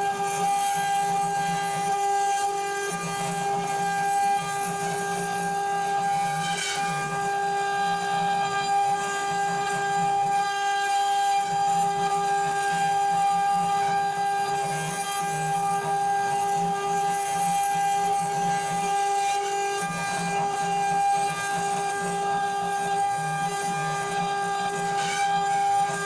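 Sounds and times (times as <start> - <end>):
router spindle whine: 0.0 - 26.0.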